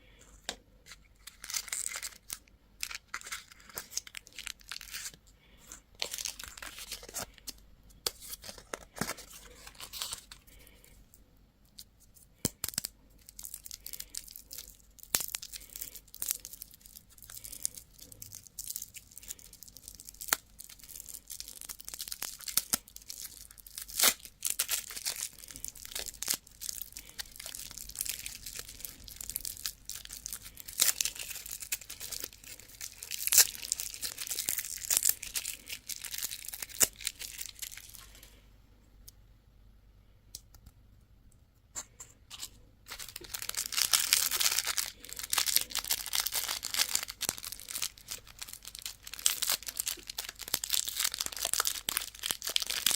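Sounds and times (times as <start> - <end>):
candy wrappers crinkling and tearing: 0.2 - 11.0, 11.7 - 38.4, 42.3 - 52.9.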